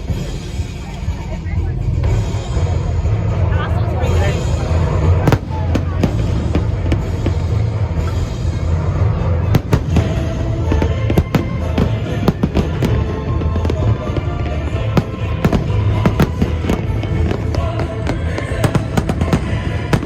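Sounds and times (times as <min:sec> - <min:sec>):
music playing: 0:00.0 - 0:20.0
fireworks bangs and cracks: 0:02.1 - 0:20.0.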